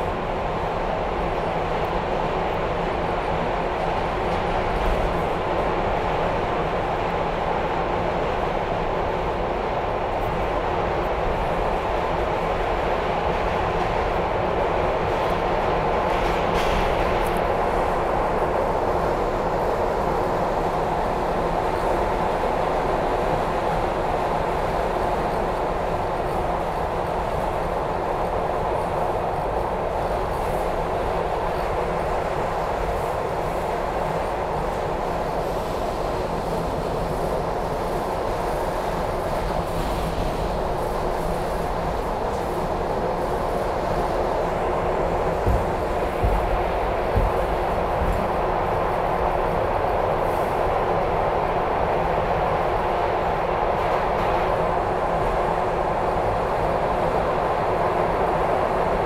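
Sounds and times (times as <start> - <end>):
subway train wheels on rails: 0.0 - 59.0.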